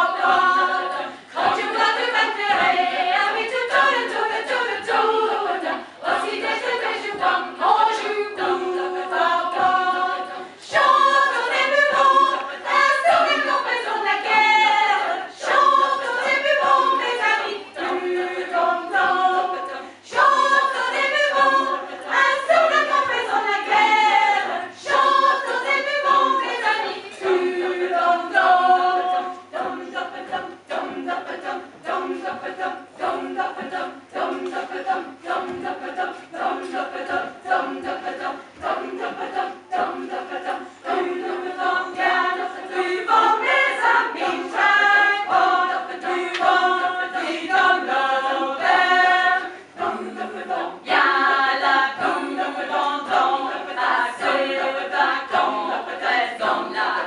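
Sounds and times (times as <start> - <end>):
women's choir singing a cappella: 0.0 - 57.0.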